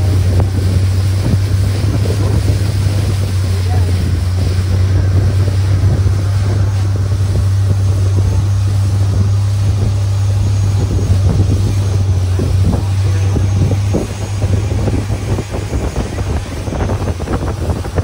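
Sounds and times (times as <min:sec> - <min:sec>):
boat engine droning: 0:00.0 - 0:18.0
rushing water: 0:00.0 - 0:18.0
wind noise on microphone: 0:00.0 - 0:18.0.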